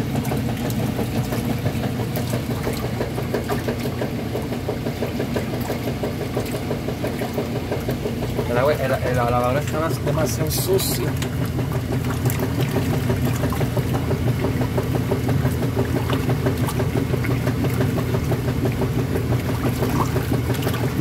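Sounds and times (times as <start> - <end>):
washing machine motor hum: 0.0 - 21.0
water churning and splashing: 0.0 - 21.0.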